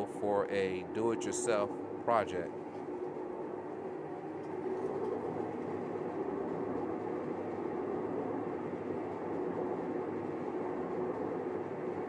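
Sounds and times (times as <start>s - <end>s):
washing machine droning hum: 0.0s - 12.0s.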